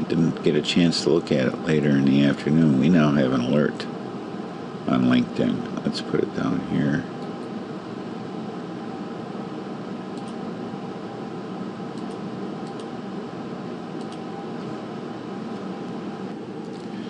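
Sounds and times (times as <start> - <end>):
fan-like room hum: 0.0 - 17.0.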